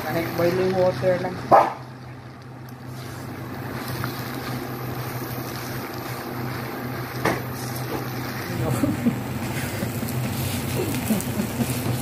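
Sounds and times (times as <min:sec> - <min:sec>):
rice sizzling in a wok: 0:00.0 - 0:12.0
steady low hum: 0:00.0 - 0:12.0.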